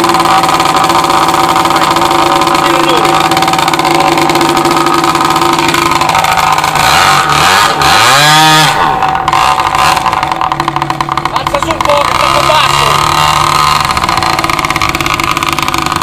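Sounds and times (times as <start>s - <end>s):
model engine running at high speed: 0.0s - 16.0s.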